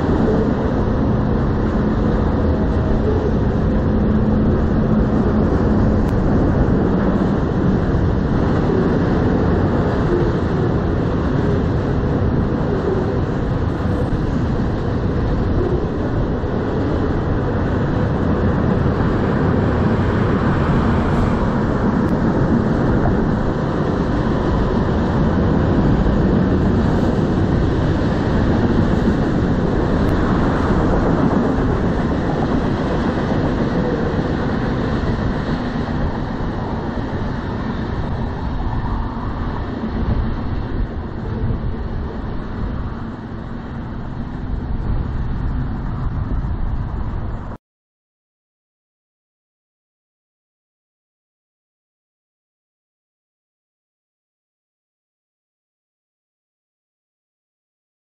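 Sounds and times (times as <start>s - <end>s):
freight train rolling on rails: 0.0s - 47.6s.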